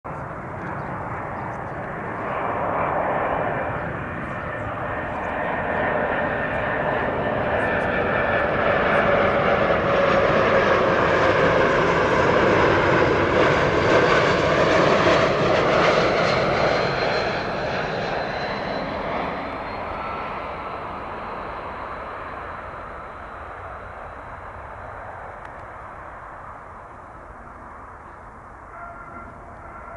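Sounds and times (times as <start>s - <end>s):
jet airliner flying past: 0.1s - 29.9s.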